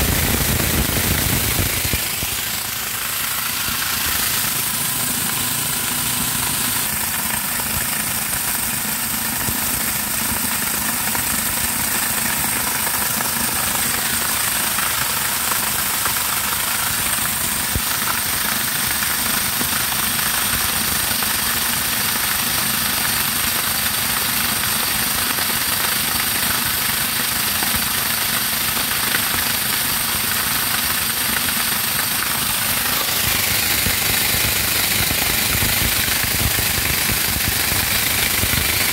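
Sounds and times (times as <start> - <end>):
electric corn grinder grinding: 0.0 - 38.9.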